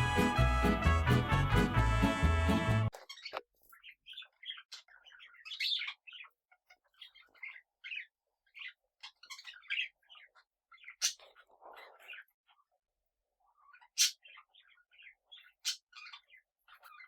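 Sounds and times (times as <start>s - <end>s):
parrots chirping: 0.0s - 12.8s, 13.4s - 17.0s.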